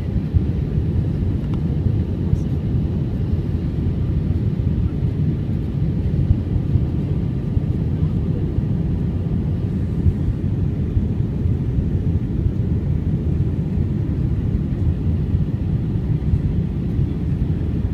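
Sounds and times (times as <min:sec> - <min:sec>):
aeroplane cabin rumble: 0:00.0 - 0:17.9.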